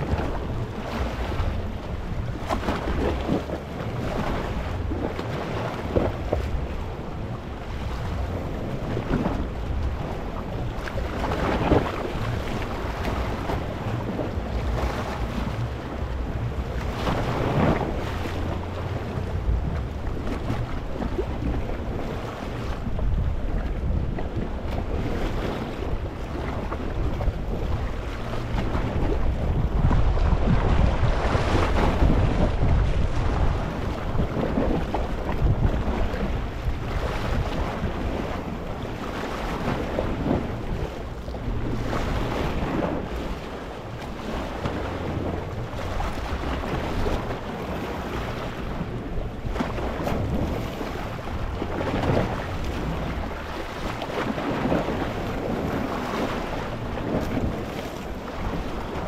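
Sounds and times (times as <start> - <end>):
sea waves washing over rocks: 0.0 - 59.0
wind rumbling on microphone: 0.0 - 59.0.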